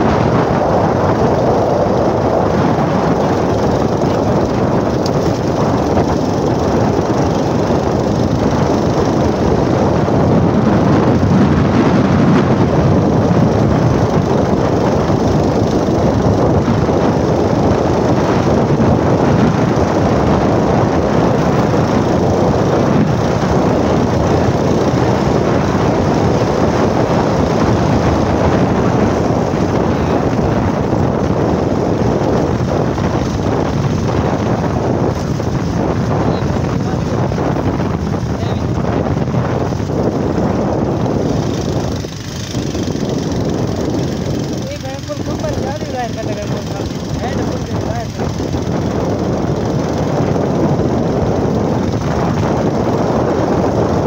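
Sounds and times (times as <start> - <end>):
motorcycle running on dirt track: 0.0 - 54.0
wind on microphone: 0.0 - 54.0.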